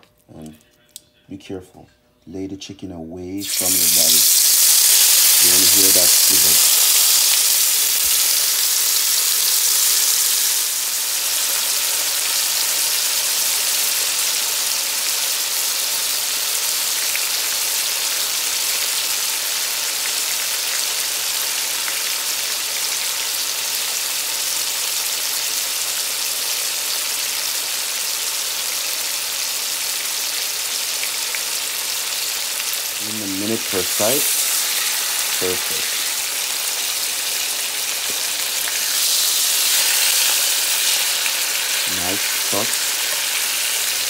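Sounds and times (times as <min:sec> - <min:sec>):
chicken sizzling in hot oil: 0:03.4 - 0:44.0.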